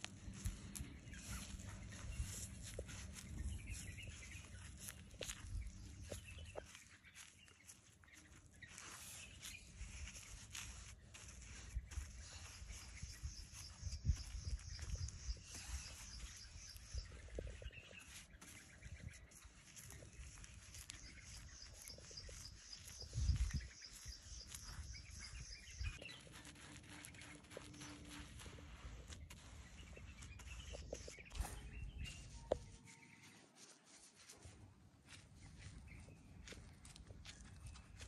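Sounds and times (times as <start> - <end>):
outdoor background noise: 0.0 - 38.0
birds chirping: 0.1 - 33.3.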